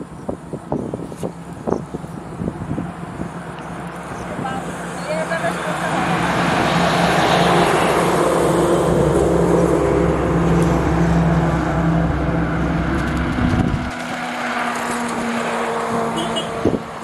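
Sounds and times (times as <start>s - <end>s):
heavy truck engine rumbling: 0.0s - 17.0s.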